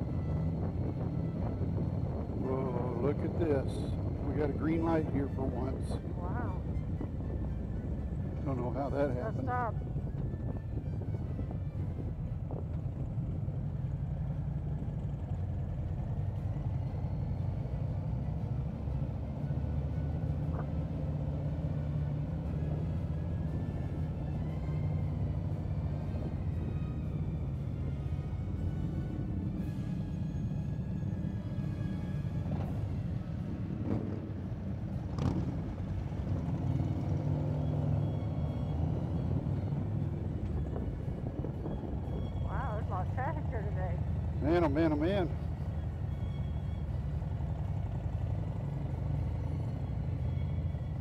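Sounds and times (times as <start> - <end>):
motorcycle engine rumbling: 0.0 - 51.0
road noise: 0.0 - 51.0.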